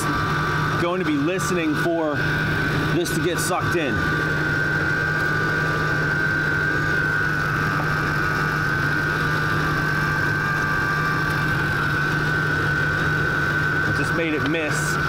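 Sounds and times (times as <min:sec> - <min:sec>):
high-pitched alternator whine: 0:00.0 - 0:15.0.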